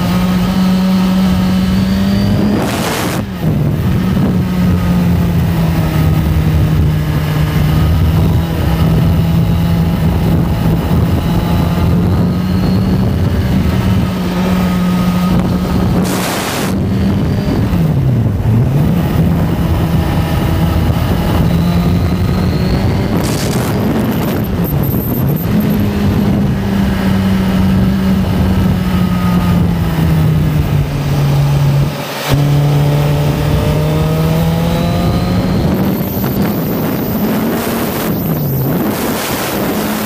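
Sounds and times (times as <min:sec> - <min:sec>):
motorcycle engine cruising: 0:00.0 - 0:40.0
wind noise: 0:00.0 - 0:40.0.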